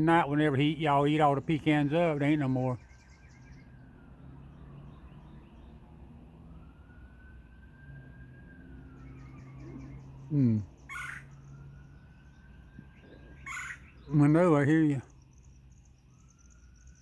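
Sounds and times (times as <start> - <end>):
distant siren wailing: 0.0 - 17.0.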